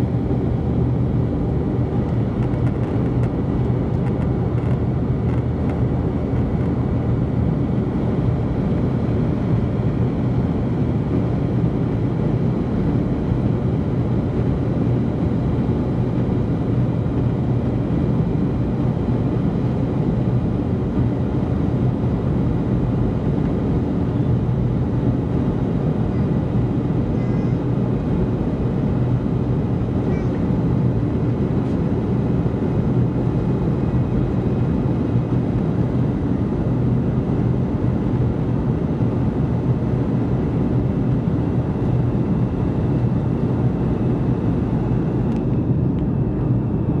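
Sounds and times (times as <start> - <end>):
airliner cabin hum and airflow: 0.0 - 47.0.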